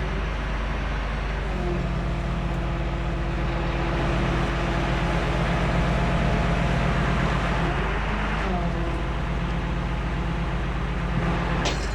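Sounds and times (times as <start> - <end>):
tow truck engine running: 0.0 - 11.9.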